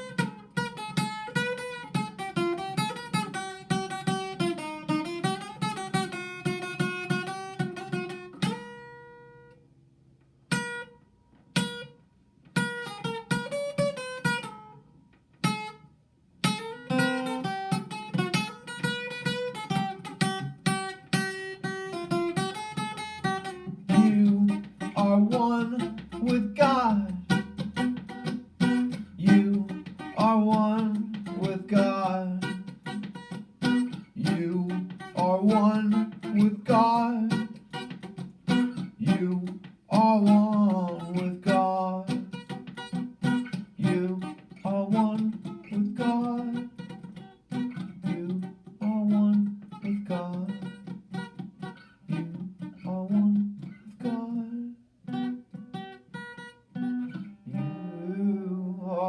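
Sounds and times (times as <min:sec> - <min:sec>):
acoustic guitar chords: 0:00.0 - 0:09.6, 0:10.5 - 0:59.0.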